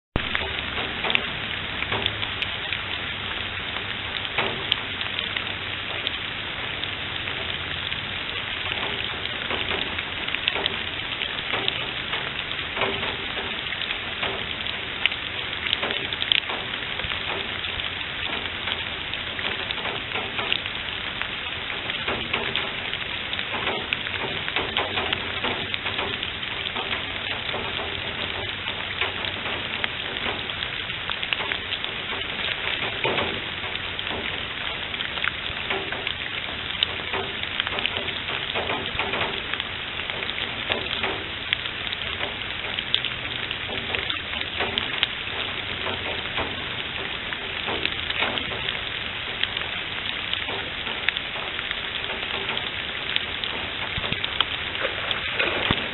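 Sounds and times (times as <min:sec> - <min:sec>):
raindrops ticking: 0:00.0 - 0:55.9
steady rain on leaves and water: 0:00.0 - 0:55.9.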